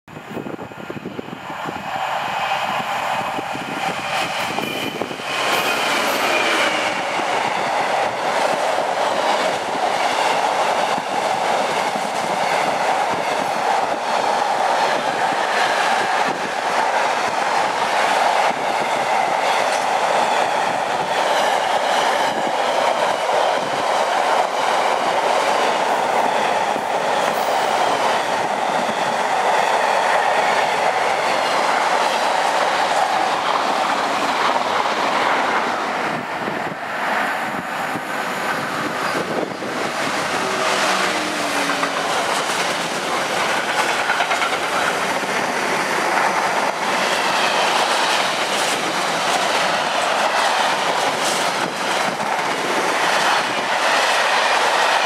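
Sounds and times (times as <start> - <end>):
diesel locomotive passing: 0.1 - 55.0
train wheels clickety-clack rumble: 3.2 - 36.8, 37.9 - 55.0.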